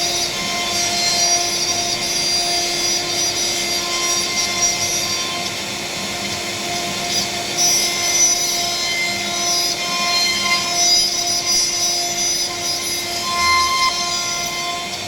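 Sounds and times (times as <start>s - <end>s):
router spindle whining: 0.2s - 15.0s.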